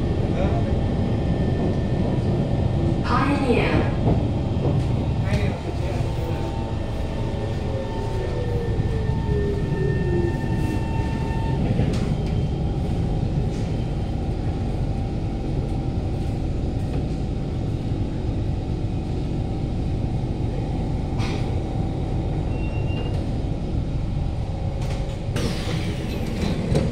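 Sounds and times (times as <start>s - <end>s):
wheels rumbling on rail: 0.0s - 26.9s.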